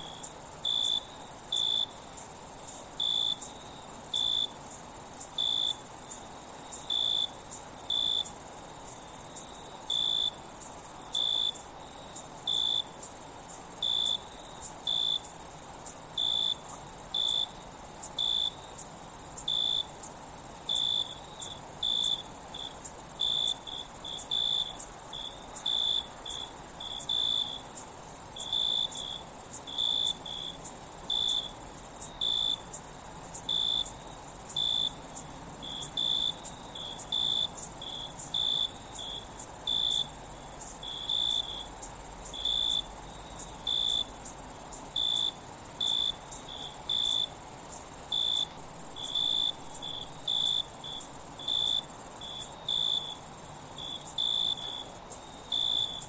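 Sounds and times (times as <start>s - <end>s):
crickets chirping: 0.0s - 56.0s
high-pitched insect trill: 0.0s - 56.0s.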